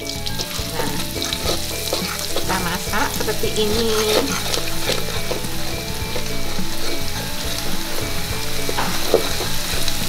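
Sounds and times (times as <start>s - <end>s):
metal spatula scraping wok: 0.0s - 10.0s
paste sizzling in oil: 0.0s - 10.0s.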